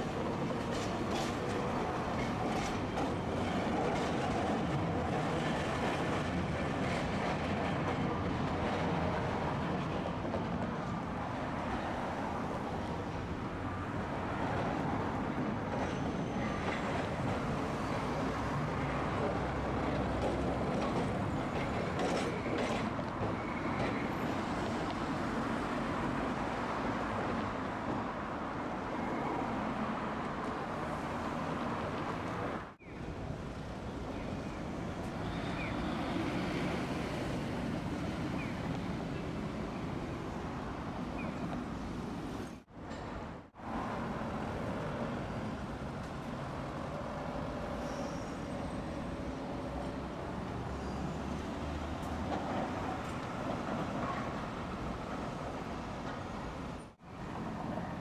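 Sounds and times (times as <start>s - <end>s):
streetcar rumbling on track: 0.0s - 58.0s.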